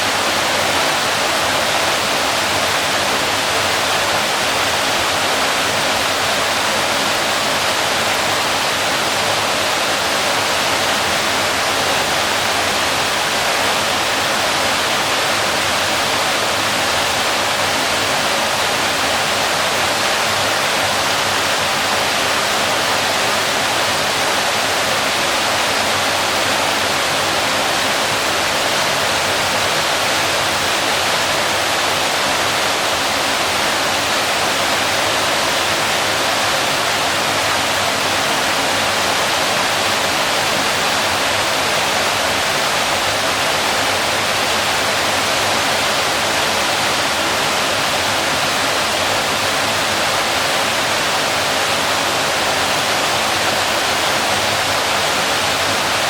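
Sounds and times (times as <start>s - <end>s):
waterfall splashing: 0.0s - 56.0s.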